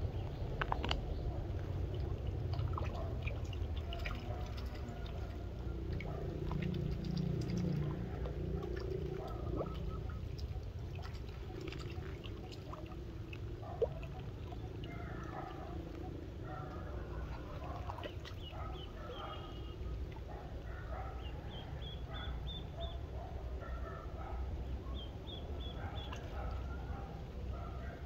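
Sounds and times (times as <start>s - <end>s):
water splashes and drips: 0.0s - 22.4s, 25.5s - 28.0s.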